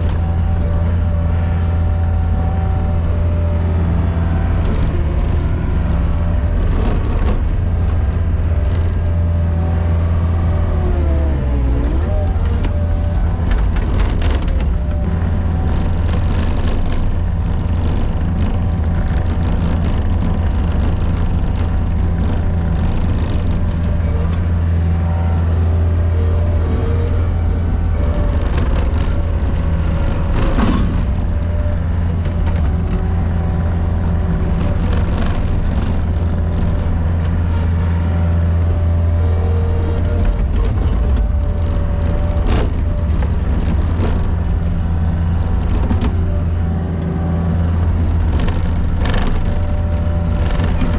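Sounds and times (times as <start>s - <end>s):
skid steer engine droning: 0.0s - 50.9s
whining tones: 0.0s - 50.9s.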